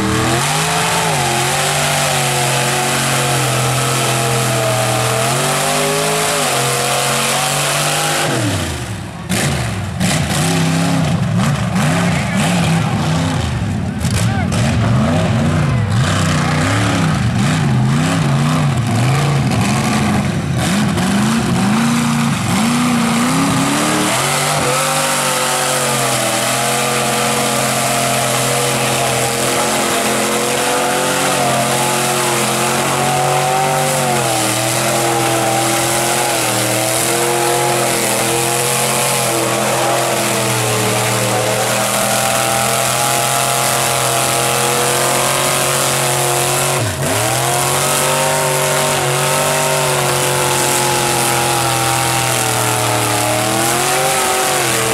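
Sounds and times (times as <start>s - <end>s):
truck engine revving: 0.0s - 54.9s.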